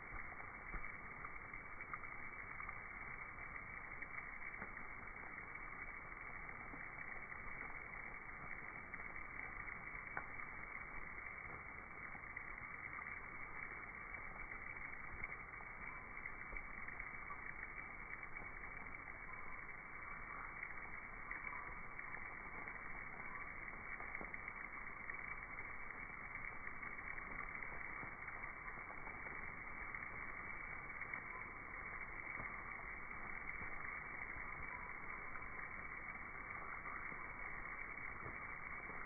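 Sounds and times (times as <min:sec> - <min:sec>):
faint ticks and chirps: 0:00.0 - 0:39.0.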